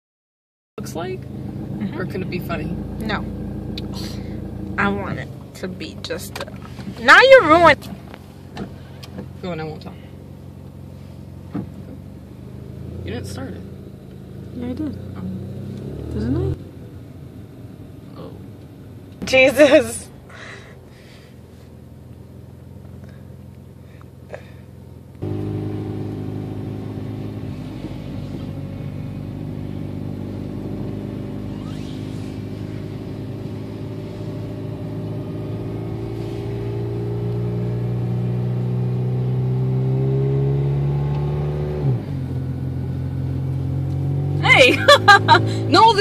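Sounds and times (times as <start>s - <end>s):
car engine hum from inside: 0.8s - 46.0s.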